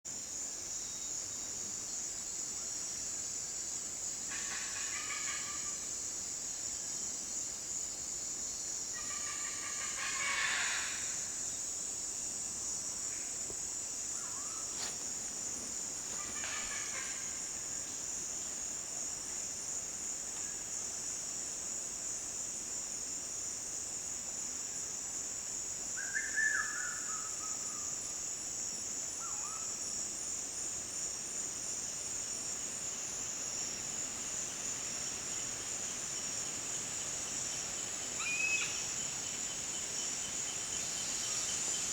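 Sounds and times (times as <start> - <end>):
insect chorus buzzing: 0.1 - 41.9.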